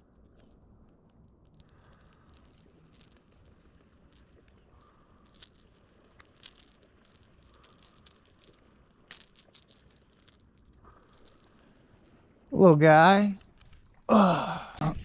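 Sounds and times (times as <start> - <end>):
faint clicks and ticks: 0.0 - 12.5.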